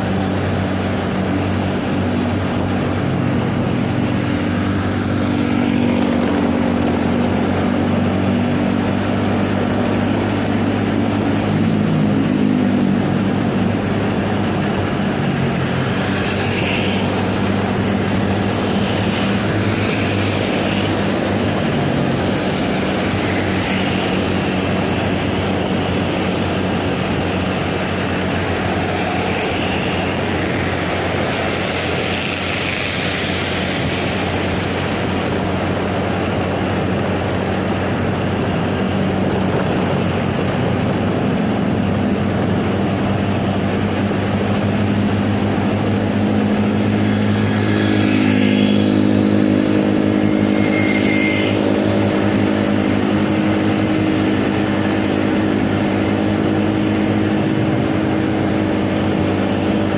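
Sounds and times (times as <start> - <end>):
road and wind noise: 0.0 - 59.9
vehicle engine cruising: 0.0 - 59.9.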